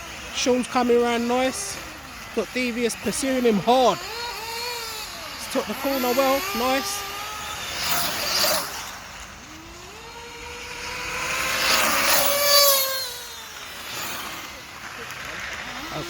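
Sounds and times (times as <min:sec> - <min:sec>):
rc car motor whine: 0:00.0 - 0:16.0.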